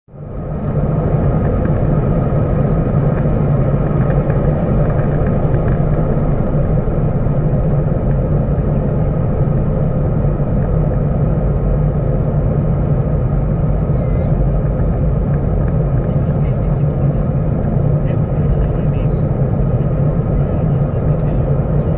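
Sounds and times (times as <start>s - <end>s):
jet cabin engine rumble: 0.1s - 21.9s.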